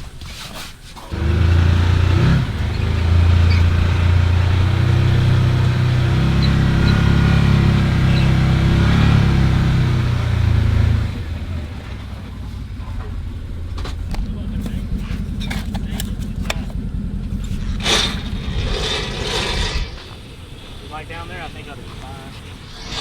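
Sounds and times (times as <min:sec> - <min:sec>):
vehicle engine running: 0:01.1 - 0:23.0.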